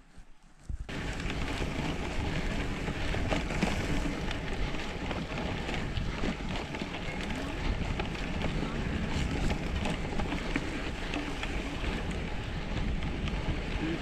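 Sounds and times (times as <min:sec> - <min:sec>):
bike rattling over bumpy grass: 0:00.0 - 0:14.0
wind buffeting microphone: 0:00.6 - 0:14.0.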